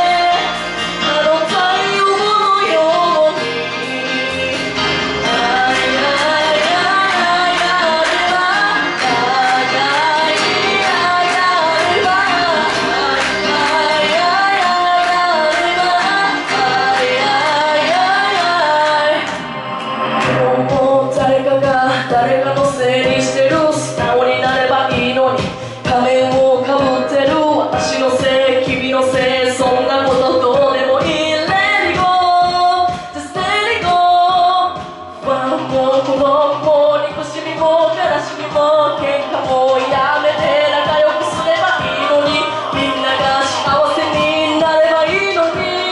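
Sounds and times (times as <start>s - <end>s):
pop backing track: 0.0s - 45.9s
woman singing into microphone: 0.0s - 45.9s.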